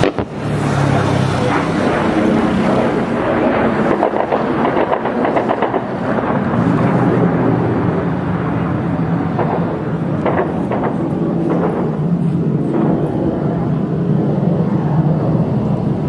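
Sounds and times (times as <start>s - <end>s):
jet engine roaring overhead: 0.0s - 16.0s.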